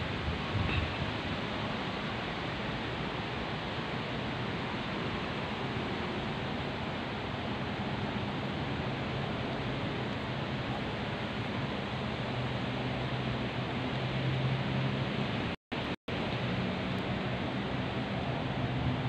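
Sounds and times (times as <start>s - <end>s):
wind rustling palm leaves: 0.0s - 19.0s.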